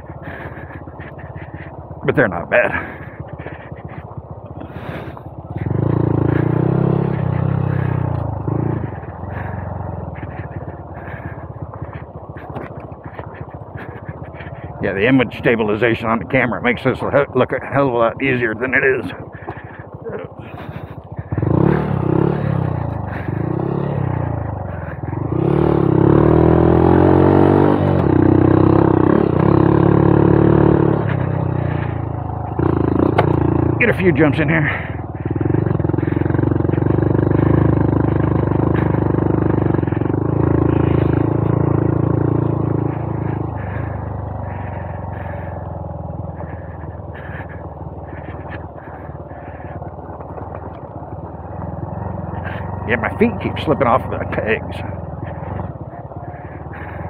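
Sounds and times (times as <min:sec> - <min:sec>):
motorbike engine under throttle: 0:00.0 - 0:57.0.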